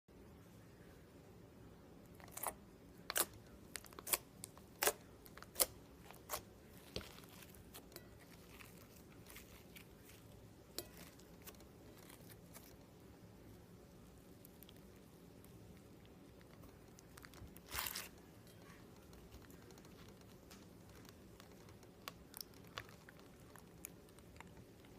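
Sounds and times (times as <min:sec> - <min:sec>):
slime crackling and popping: 0:03.1 - 0:12.8, 0:14.3 - 0:24.9.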